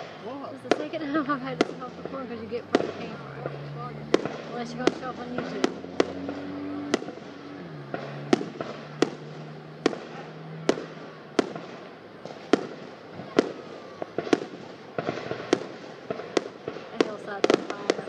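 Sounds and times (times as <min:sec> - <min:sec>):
crackling pops: 0:00.0 - 0:18.0
fireworks bangs: 0:00.0 - 0:18.0.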